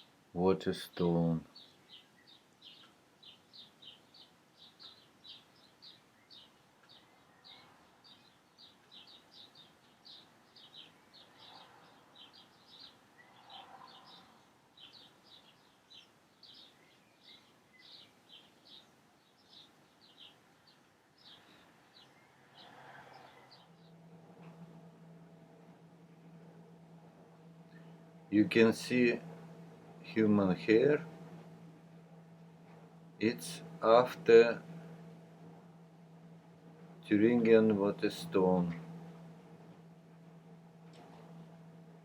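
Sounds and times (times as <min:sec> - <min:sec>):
faint bird chirping: 0:00.0 - 0:41.9.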